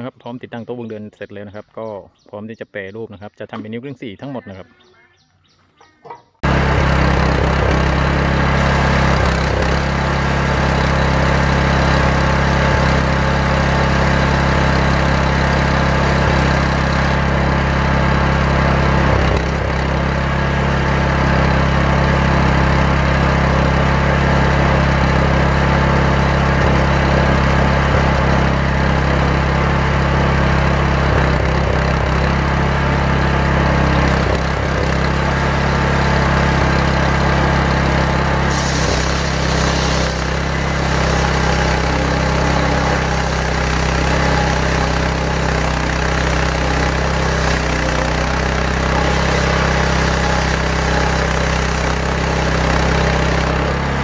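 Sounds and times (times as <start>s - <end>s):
engine running steadily: 6.4s - 54.0s.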